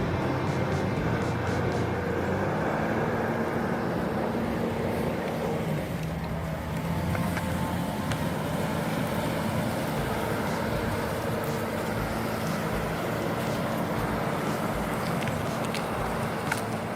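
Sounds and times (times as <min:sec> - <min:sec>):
heavy machine engine humming: 0:00.0 - 0:16.9.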